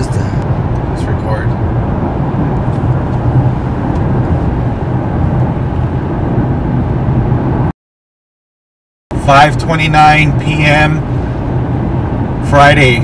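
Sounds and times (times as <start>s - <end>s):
car road and engine noise: 0.0s - 7.7s, 9.1s - 13.0s.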